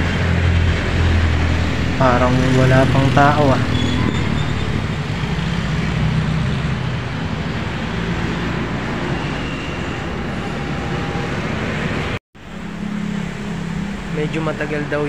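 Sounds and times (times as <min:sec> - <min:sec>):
rushing background noise: 0:00.0 - 0:15.0.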